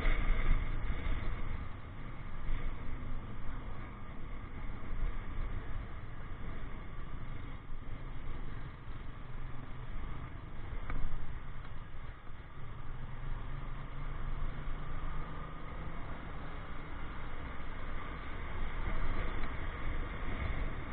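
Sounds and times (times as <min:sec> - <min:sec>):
motorcycle engine hum: 0:00.0 - 0:20.9
road and wind noise: 0:00.0 - 0:20.9.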